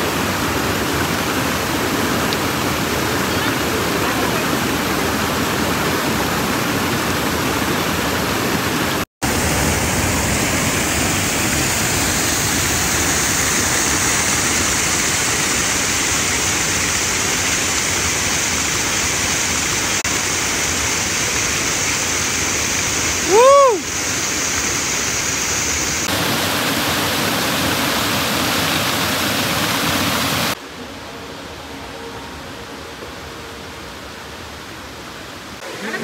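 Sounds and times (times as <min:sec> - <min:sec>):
waterfall rushing: 0:00.0 - 0:31.0, 0:33.1 - 0:36.0.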